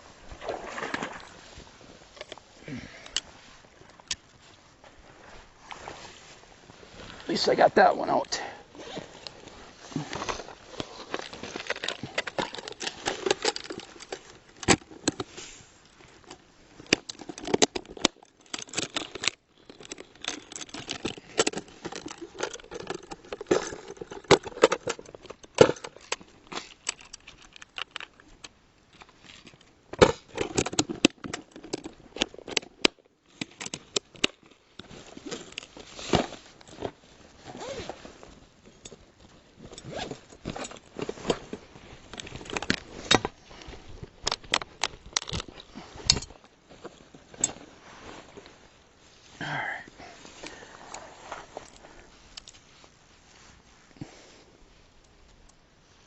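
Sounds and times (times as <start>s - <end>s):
handling noise clicking and rustling: 0.4s - 49.4s, 50.1s - 54.0s.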